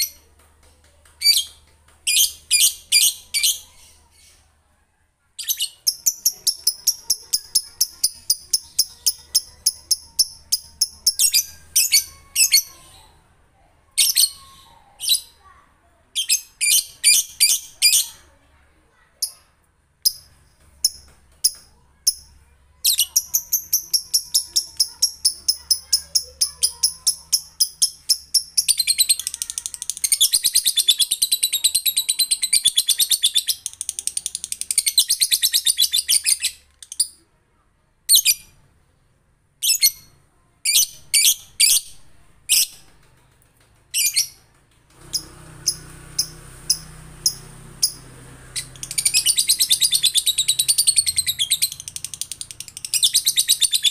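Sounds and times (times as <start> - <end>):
bird chirping and chattering: 1.1 - 4.5, 5.4 - 13.2, 13.9 - 18.4, 19.1 - 37.3, 38.1 - 38.6, 39.6 - 53.9.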